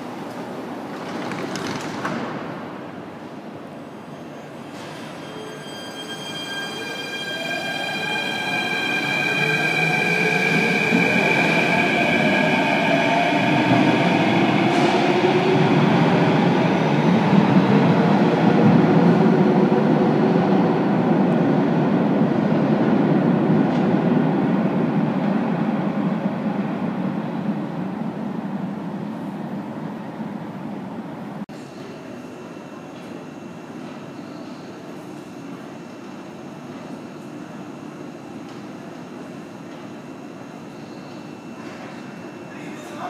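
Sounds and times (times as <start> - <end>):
metro train rumbling: 0.0 - 43.0.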